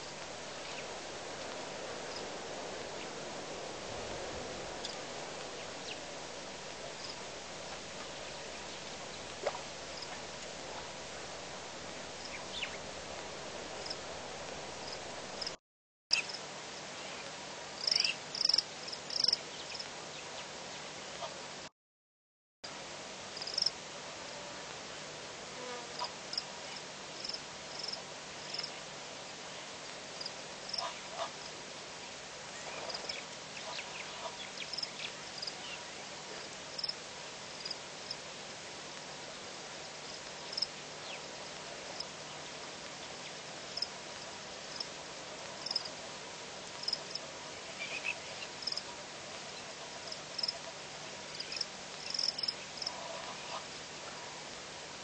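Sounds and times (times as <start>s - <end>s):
steady hiss: 0.0s - 21.7s, 22.6s - 55.0s.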